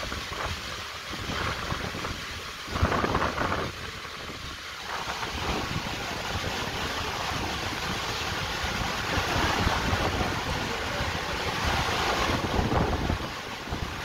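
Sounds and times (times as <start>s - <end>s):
heavy rain hissing: 0.0s - 14.0s
wind gusts on microphone: 0.0s - 14.0s.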